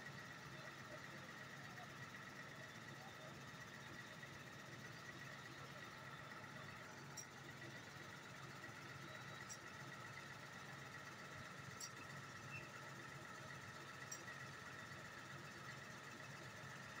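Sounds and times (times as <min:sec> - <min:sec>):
drilling rig engine humming: 0:00.0 - 0:17.0.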